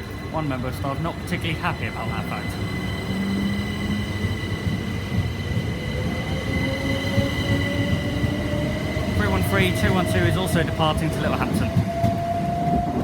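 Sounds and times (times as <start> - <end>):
steady high whines: 0.0 - 13.0
train running rumble: 0.0 - 13.0.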